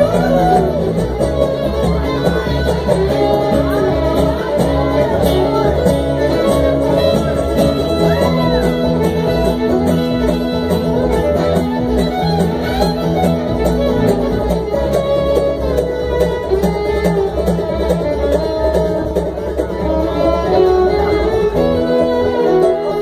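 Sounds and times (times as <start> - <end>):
bluegrass string band playing: 0.0 - 23.0.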